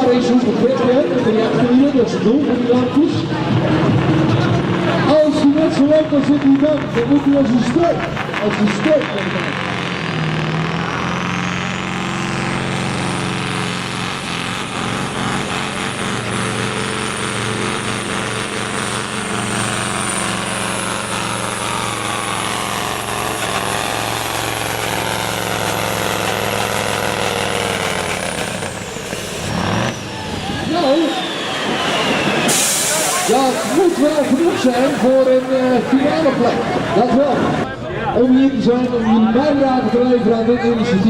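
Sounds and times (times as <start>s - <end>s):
high engine whine: 0.0s - 41.0s
truck engine running flat out: 0.0s - 41.0s.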